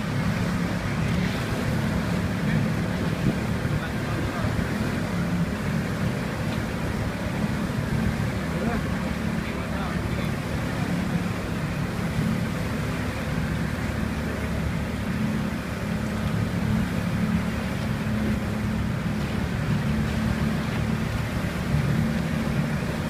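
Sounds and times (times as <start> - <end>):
boat engine droning: 0.0 - 23.0
water noise: 0.0 - 23.0
wind: 0.0 - 23.0.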